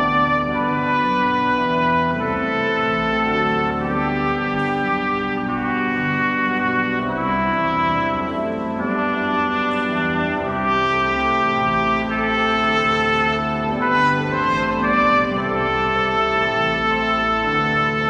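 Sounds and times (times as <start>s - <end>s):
pipe organ sustained chords: 0.0s - 18.0s
trumpet playing slow solo: 0.0s - 18.0s.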